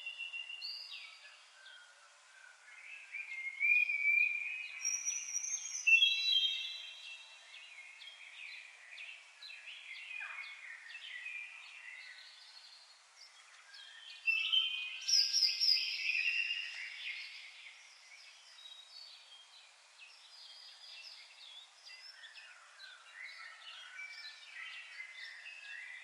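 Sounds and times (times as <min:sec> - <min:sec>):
birds chirping and singing: 0:00.0 - 0:26.0
faint hiss: 0:00.0 - 0:26.0.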